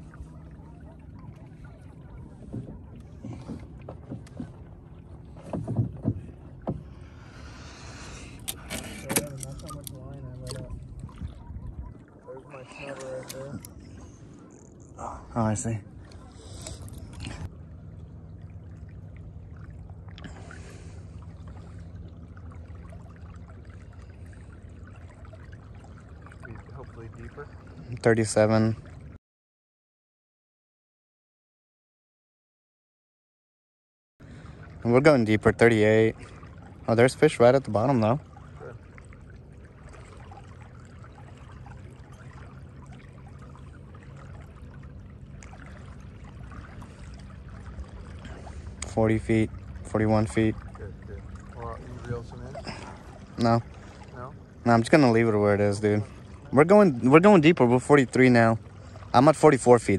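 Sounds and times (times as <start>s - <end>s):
steady low hum: 0.0s - 29.2s, 34.2s - 59.9s
water lapping against canoe hull: 0.0s - 29.2s, 34.2s - 59.9s.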